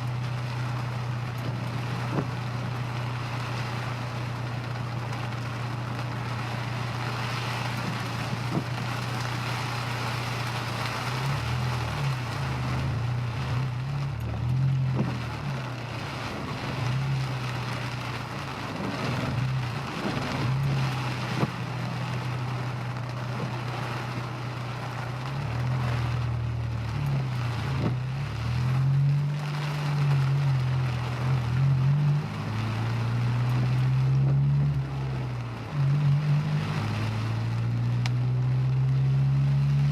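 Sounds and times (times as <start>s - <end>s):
car engine rising and falling: 0.0s - 39.9s
heavy rain on wet road: 0.0s - 39.9s.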